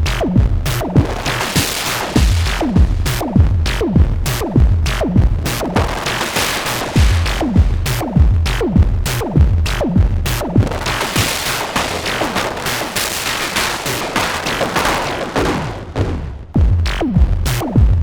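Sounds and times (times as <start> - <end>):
synthesizer drum pattern: 0.0 - 18.0.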